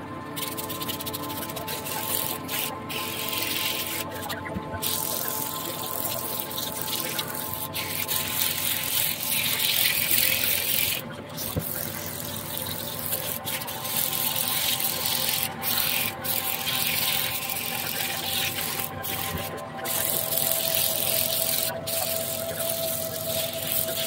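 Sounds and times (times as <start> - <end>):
sponge scrubbing plastic film: 0.3 - 24.0.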